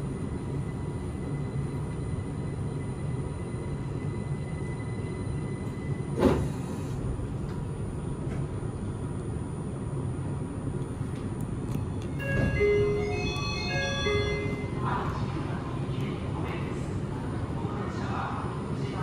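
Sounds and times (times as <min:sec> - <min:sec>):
train running hum: 0:00.0 - 0:19.0.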